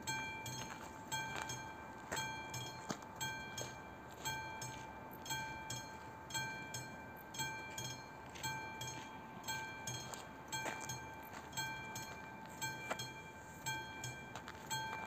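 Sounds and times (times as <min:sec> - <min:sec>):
level crossing warning bell ringing: 0:00.0 - 0:15.0.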